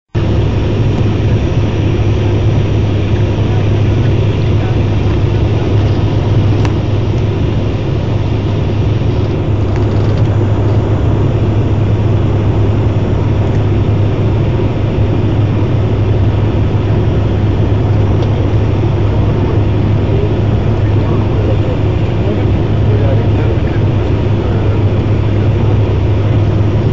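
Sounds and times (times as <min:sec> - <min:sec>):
airliner cabin engine drone: 0:00.1 - 0:26.9.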